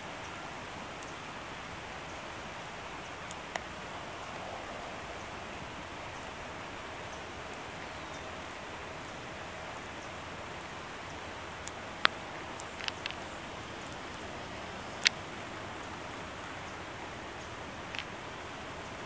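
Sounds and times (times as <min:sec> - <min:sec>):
rain falling on trees: 0:00.0 - 0:19.0.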